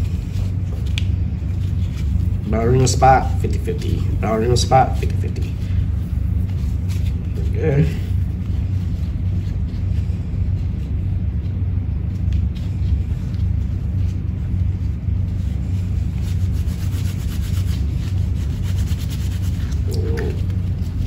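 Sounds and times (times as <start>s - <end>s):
scratchy rubbing of casting tape: 0.0s - 21.0s
steady low rumble: 0.0s - 21.0s.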